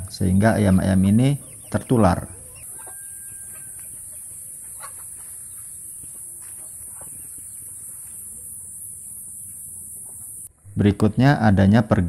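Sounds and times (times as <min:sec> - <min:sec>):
steady high-pitched hiss: 0:00.0 - 0:11.3
hens giving short calls: 0:00.4 - 0:10.4.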